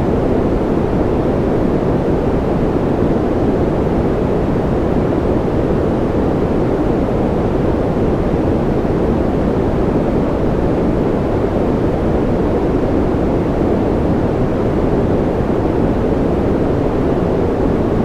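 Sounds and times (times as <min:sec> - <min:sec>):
white noise: 0:00.0 - 0:18.0.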